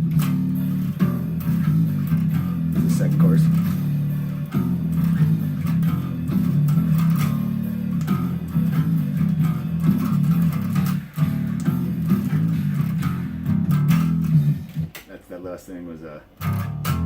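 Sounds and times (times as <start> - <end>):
bass guitar playing low notes: 0.0 - 14.9, 16.3 - 17.0.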